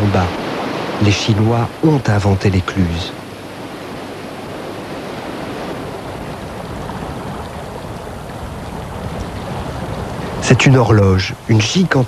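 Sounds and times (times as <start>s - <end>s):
water rushing through lock gate: 0.0s - 12.0s.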